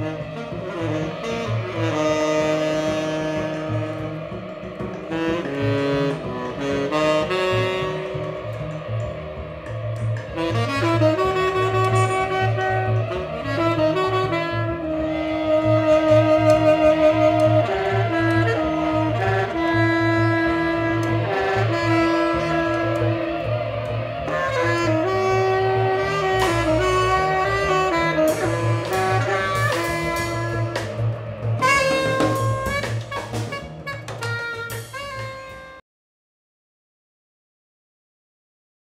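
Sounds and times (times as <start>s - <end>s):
pulsing bass line: 0.0s - 35.6s
drums: 0.0s - 35.8s
horn melody: 0.0s - 35.8s
instrumental jazz: 0.0s - 35.8s.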